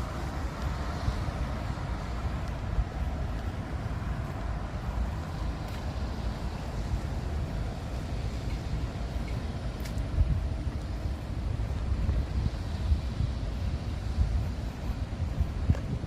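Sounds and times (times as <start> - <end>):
street ambience hiss: 0.0 - 16.0
wind rumbling on microphone: 0.0 - 16.0.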